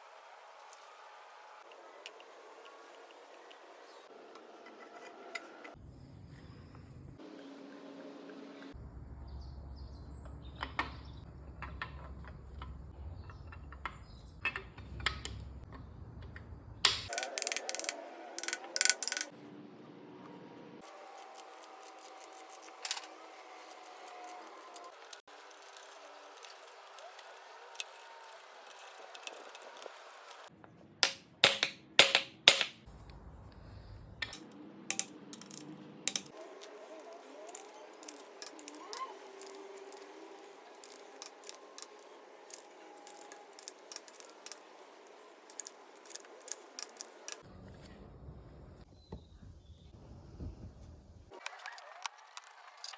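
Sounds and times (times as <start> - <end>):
low workshop hum: 0.0 - 52.9.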